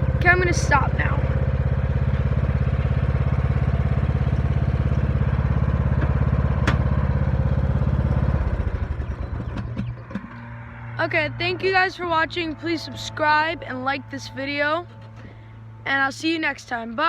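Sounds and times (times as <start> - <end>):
riding lawnmower engine running: 0.0 - 17.0.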